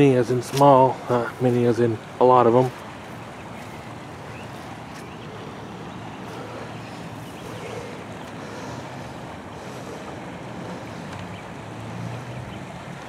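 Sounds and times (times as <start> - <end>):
water rushing over rapids: 0.0 - 13.0.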